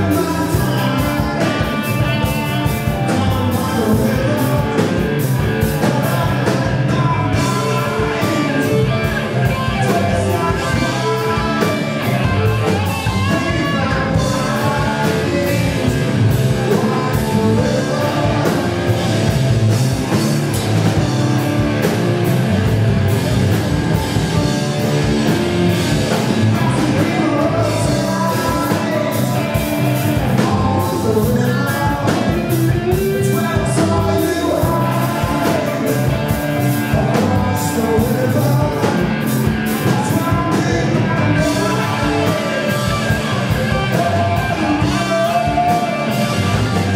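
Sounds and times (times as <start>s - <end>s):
live rock band playing: 0.0s - 46.9s
man singing lead vocals: 0.0s - 46.9s.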